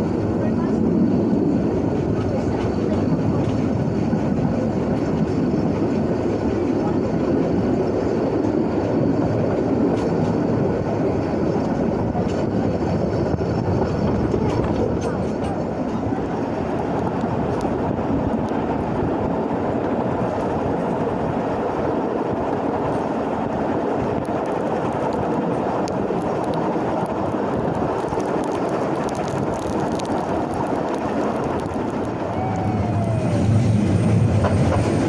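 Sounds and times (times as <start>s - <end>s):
steam train rumbling: 0.0s - 35.0s.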